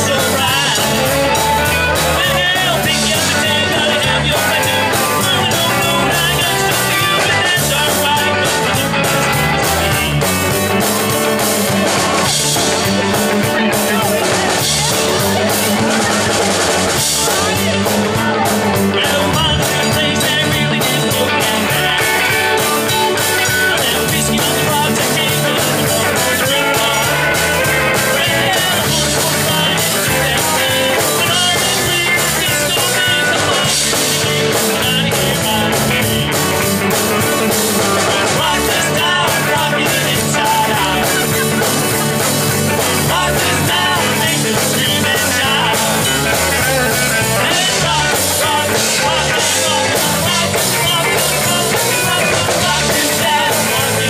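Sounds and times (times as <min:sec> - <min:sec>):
drum kit: 0:00.0 - 0:54.0
electric guitars: 0:00.0 - 0:54.0
man singing into a microphone: 0:00.0 - 0:54.0.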